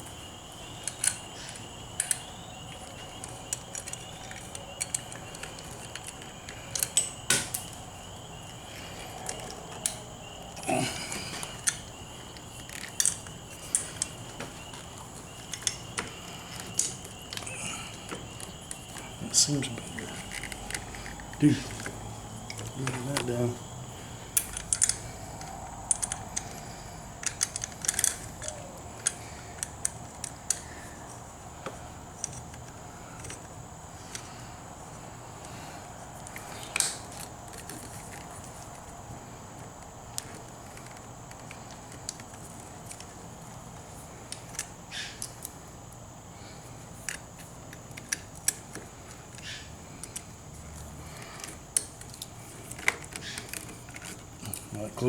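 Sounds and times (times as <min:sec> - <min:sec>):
small clicks and metallic rattles: 0:00.0 - 0:10.1, 0:11.2 - 0:46.0, 0:46.7 - 0:55.0.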